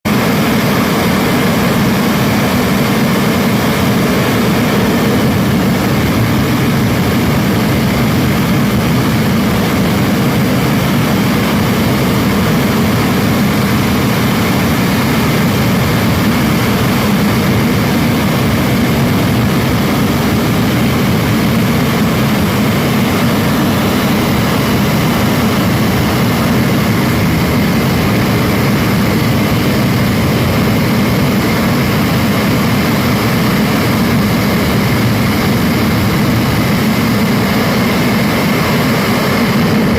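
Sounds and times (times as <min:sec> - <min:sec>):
loud steady jet noise: 0:00.0 - 0:39.9.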